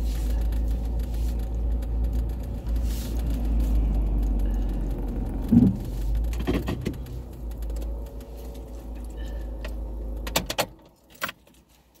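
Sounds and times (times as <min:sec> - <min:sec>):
sharp clicks and knocks: 0:00.0 - 0:11.6
car engine idling: 0:00.0 - 0:12.0.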